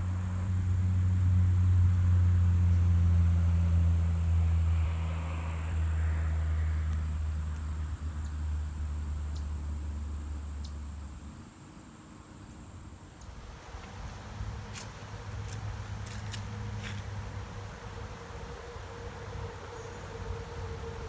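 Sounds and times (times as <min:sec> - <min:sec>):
low engine hum: 0:00.0 - 0:11.6, 0:13.2 - 0:21.0.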